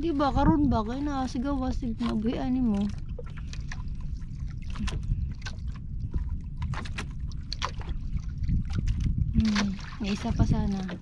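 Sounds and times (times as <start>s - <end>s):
knocks and splashes: 0.0s - 11.0s
low rumble: 0.0s - 11.0s
water lapping against boat: 0.0s - 11.0s.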